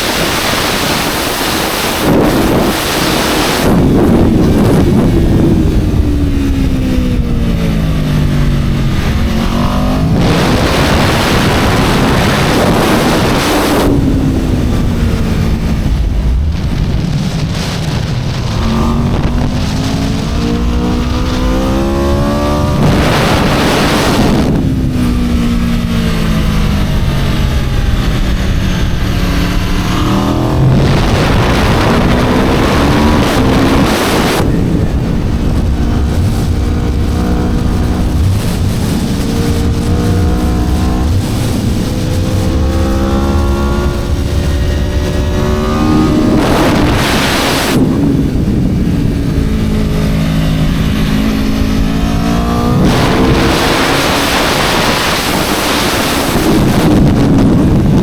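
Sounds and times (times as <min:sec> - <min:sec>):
motorcycle engine revving: 0:00.0 - 0:58.0
wind rushing over microphone: 0:00.0 - 0:58.0.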